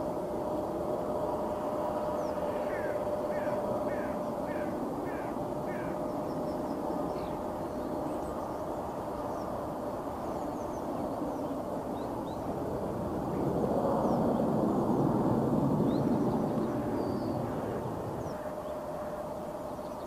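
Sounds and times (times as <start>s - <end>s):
distant jet engines rumbling: 0.0s - 20.0s.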